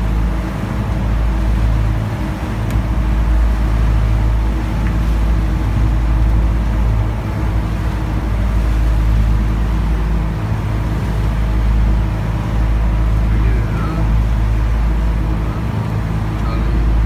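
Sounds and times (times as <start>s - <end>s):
boat engine droning: 0.0s - 17.0s
water rushing from wake: 0.0s - 17.0s.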